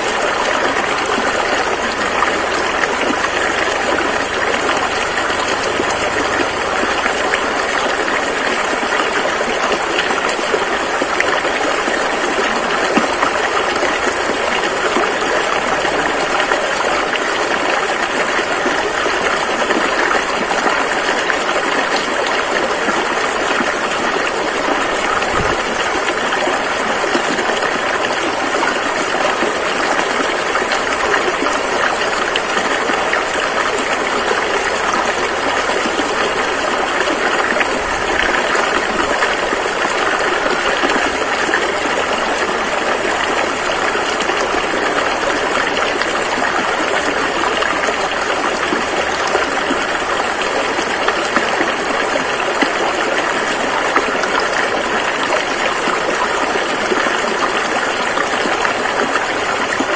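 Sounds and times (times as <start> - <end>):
fast-flowing river: 0.0 - 59.9.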